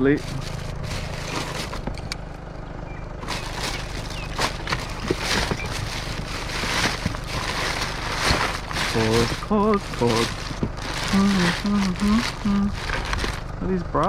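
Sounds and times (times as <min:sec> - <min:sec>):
rustling and knocking of items: 0:00.0 - 0:02.2, 0:03.2 - 0:13.6
low rumble: 0:00.0 - 0:14.0.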